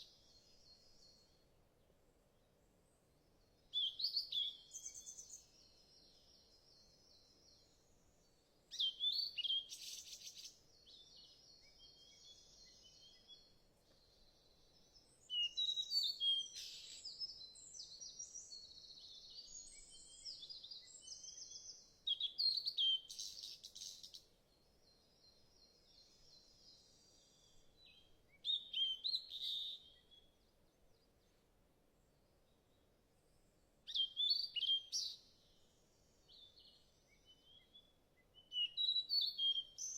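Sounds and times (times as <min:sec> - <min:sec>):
small birds chirping and trilling: 0:00.0 - 0:01.5, 0:02.5 - 0:31.4, 0:32.2 - 0:39.9.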